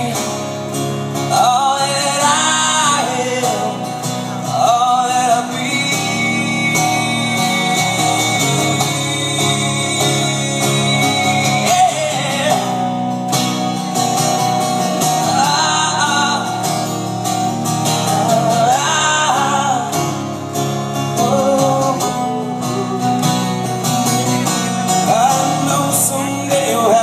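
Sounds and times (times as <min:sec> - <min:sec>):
man singing wordlessly: 0:00.0 - 0:13.0, 0:15.1 - 0:17.0, 0:17.7 - 0:23.4, 0:24.9 - 0:27.0
guitar accompaniment: 0:00.0 - 0:27.0.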